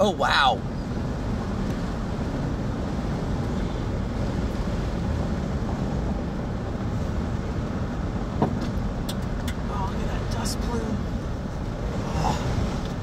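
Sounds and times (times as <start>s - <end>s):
car driving on road: 0.0s - 13.0s.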